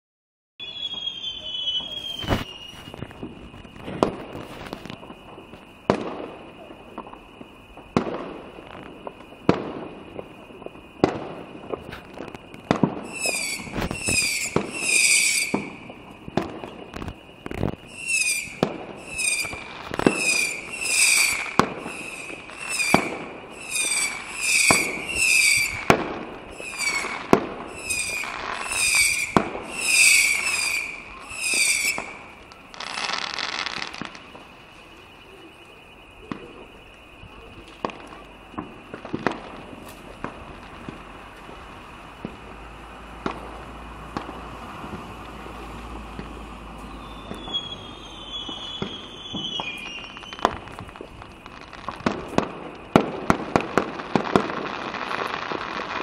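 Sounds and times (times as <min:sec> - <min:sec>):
fireworks bangs: 0:00.6 - 0:56.0
whistling fireworks: 0:00.6 - 0:56.0.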